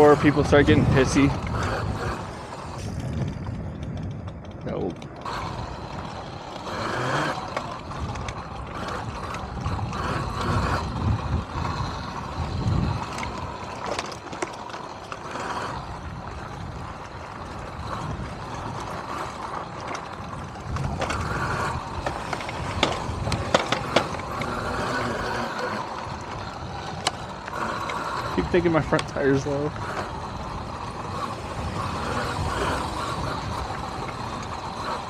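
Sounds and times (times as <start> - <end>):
bike chain and frame rattling: 0.0 - 35.0
wind rumbling on microphone: 0.0 - 35.0.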